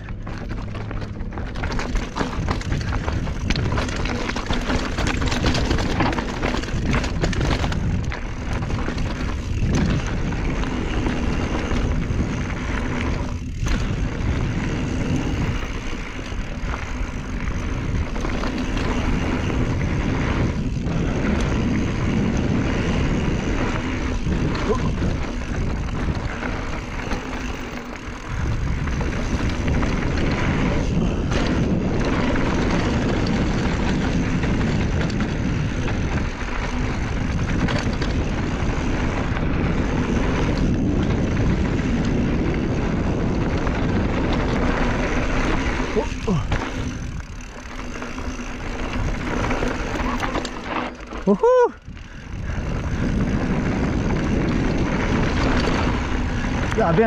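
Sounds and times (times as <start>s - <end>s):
tyres crunching over rocky dirt: 0.0s - 51.3s
bike clattering over bumps: 0.0s - 57.0s
wind rushing over microphone: 0.0s - 57.0s.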